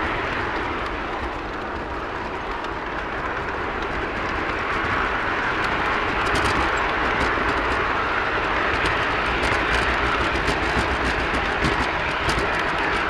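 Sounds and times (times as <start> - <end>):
model train rolling rumble and hiss: 0.0 - 13.0.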